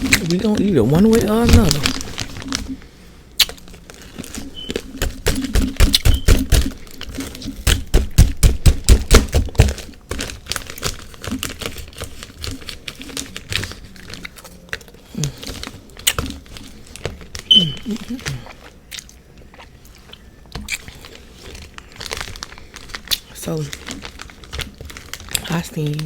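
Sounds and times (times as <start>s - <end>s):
frost cracking and crunching: 0.0s - 19.1s, 20.6s - 26.0s.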